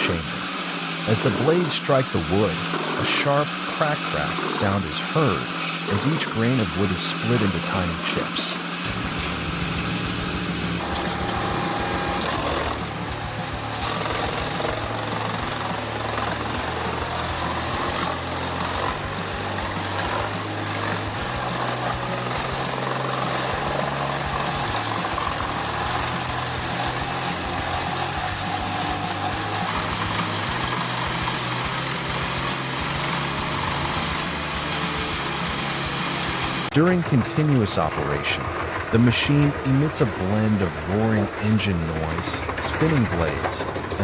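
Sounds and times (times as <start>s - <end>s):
spinning blades: 0.0s - 36.7s
wood chipper engine: 0.0s - 44.0s
wood crunching: 1.1s - 36.7s.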